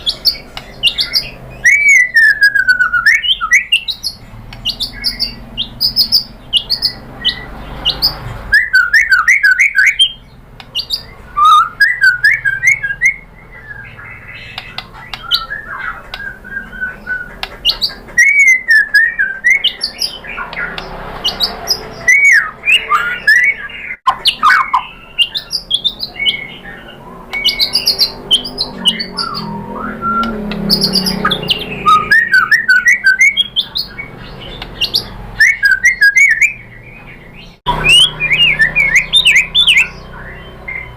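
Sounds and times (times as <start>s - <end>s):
songbird singing varied song: 0.0s - 40.9s.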